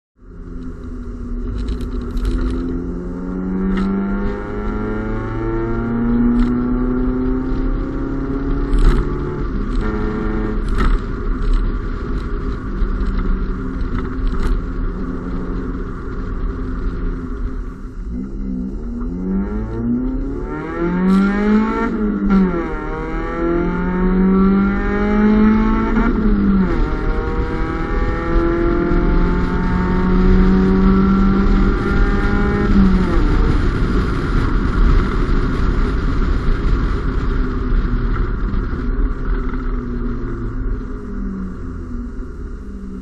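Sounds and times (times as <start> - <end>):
car engine accelerating: 0.2 - 43.0
road noise: 0.2 - 43.0.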